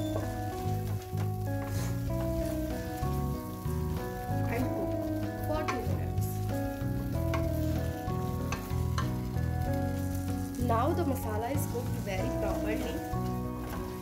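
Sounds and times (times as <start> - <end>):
background music of held chords: 0.0 - 14.0
food sizzling in a pan: 0.0 - 14.0.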